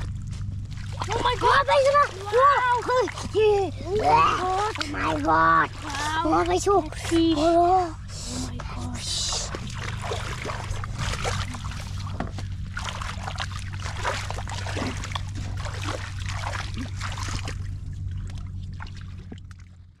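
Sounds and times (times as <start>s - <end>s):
feet splashing through muddy water: 0.0s - 20.0s
steady low hum: 0.0s - 20.0s.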